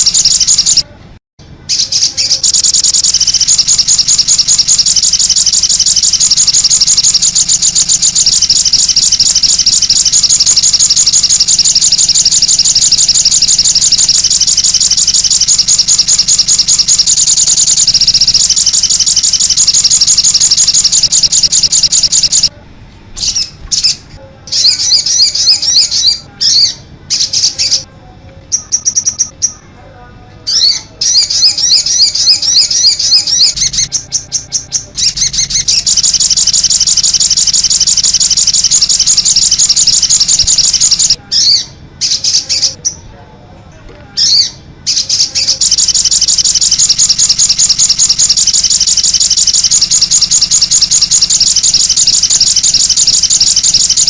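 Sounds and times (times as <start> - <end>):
bird chirping trills: 0.0 - 0.8, 1.7 - 22.5, 23.2 - 27.9, 28.5 - 29.7, 30.5 - 43.0, 44.2 - 54.0.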